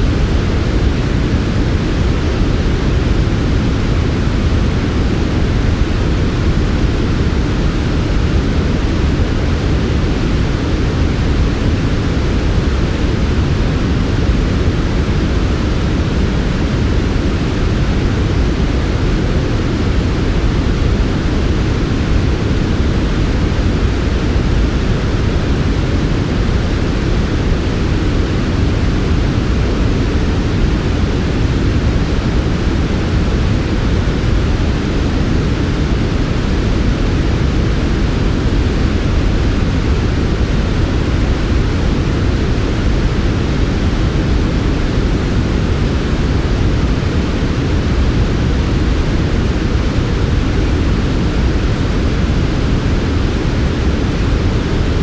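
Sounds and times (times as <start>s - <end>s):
steady generated noise: 0.0s - 55.0s.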